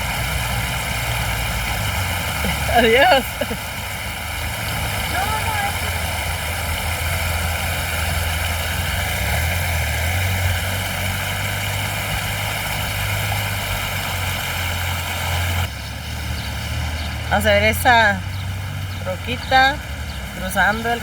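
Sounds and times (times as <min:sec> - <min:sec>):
river rushing roar: 0:00.0 - 0:21.0.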